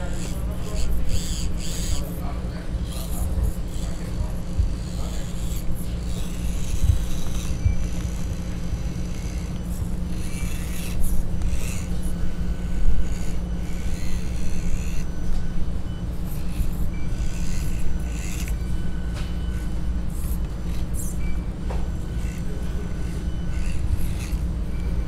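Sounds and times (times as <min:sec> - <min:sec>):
small electric motor whirring: 0:00.0 - 0:25.0
steady low hum: 0:00.0 - 0:25.0.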